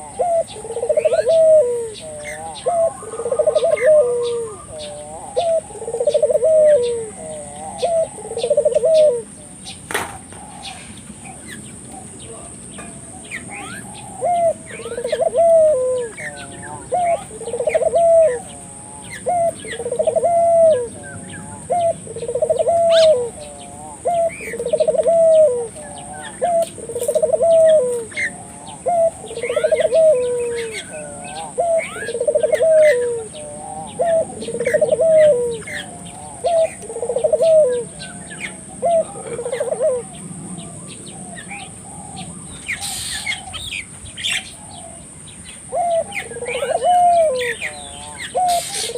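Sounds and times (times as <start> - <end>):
dove cooing: 0.0 - 48.9
small birds chirping: 0.0 - 48.9.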